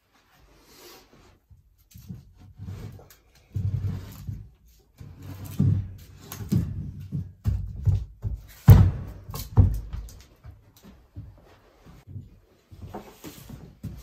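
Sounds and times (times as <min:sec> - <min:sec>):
objects knocking and clunking: 0:01.9 - 0:14.0.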